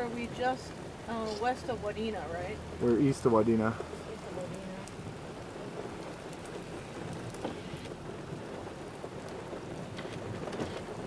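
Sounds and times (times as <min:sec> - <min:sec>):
sharp taps of raindrops: 0:00.0 - 0:11.0
steady rain hiss: 0:00.0 - 0:11.0.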